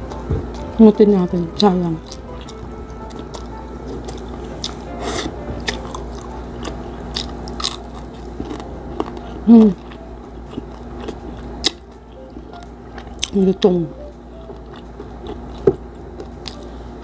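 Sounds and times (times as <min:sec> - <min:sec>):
crunching and chewing: 0:01.6 - 0:13.7, 0:14.4 - 0:16.8.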